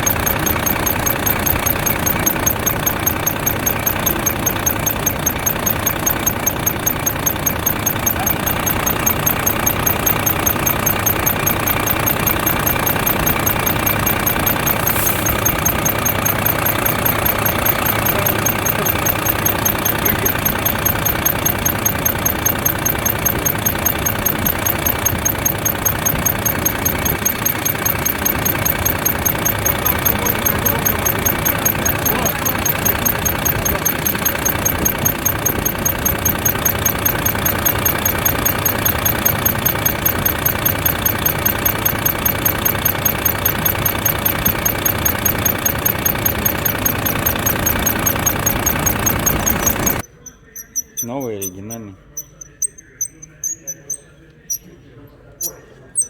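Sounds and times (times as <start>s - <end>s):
diesel engine idling: 0.0s - 50.1s
rapid high-pitched squeak: 0.0s - 54.8s, 55.4s - 56.0s.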